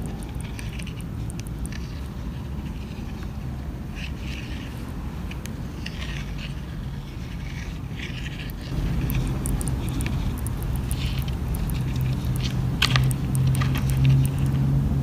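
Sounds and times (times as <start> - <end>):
crabs scratching and clicking: 0.0 - 15.0
steady low hum: 0.0 - 15.0.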